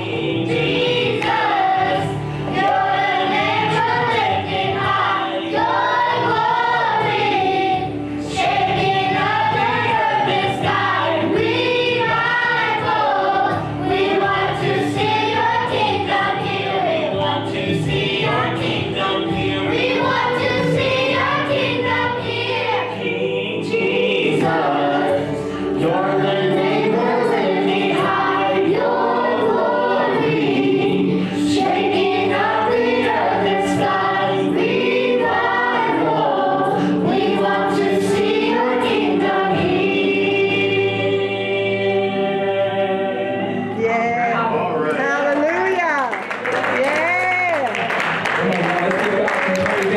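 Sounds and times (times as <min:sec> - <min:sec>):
choir singing gospel music: 0:00.0 - 0:45.2.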